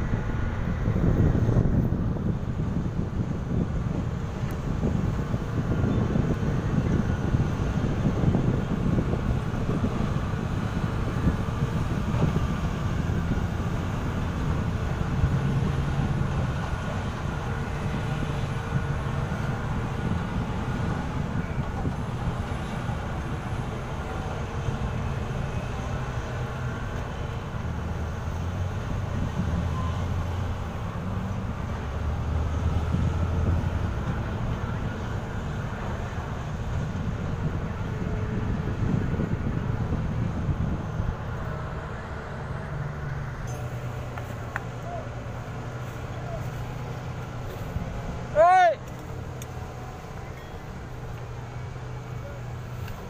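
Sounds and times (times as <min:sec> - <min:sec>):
diesel machinery rumbling: 0:00.0 - 0:53.0.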